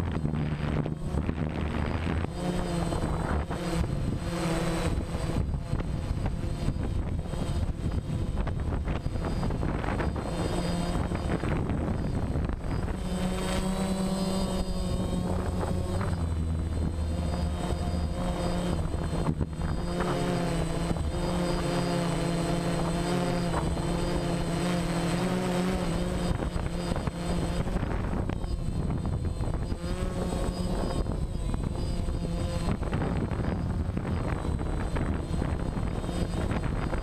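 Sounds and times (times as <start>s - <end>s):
helicopter motor and rotor drone: 0.0s - 37.0s.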